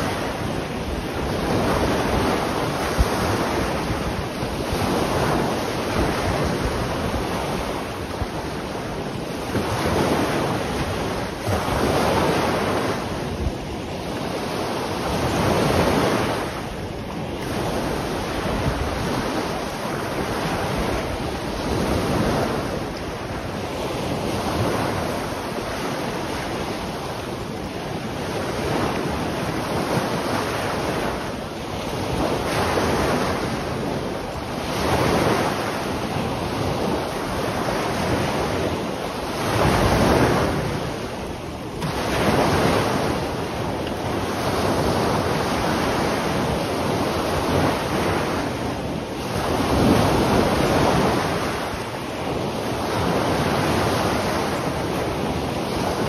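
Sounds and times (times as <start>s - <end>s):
small waves breaking on shore: 0.0s - 56.0s
wind on microphone: 0.0s - 56.0s.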